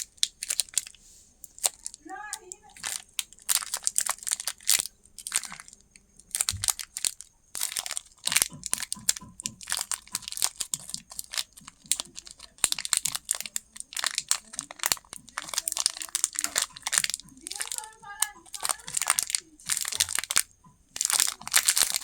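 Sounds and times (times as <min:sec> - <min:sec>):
candy crunching: 0:00.0 - 0:22.0
candy wrappers crinkling: 0:00.0 - 0:22.0.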